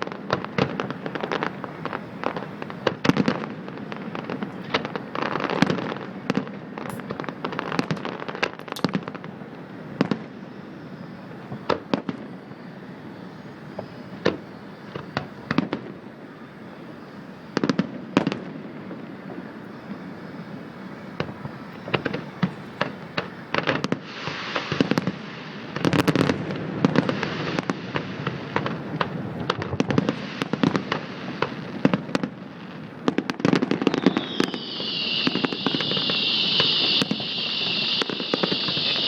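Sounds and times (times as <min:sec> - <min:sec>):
fireworks bursting: 0:00.0 - 0:16.0, 0:17.5 - 0:39.0.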